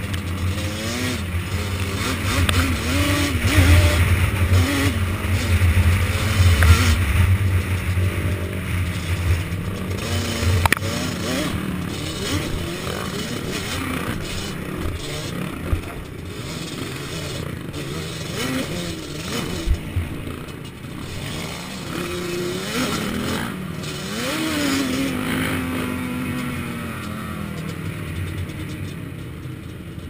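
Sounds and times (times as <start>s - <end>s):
quad engine revving: 0.0s - 29.7s.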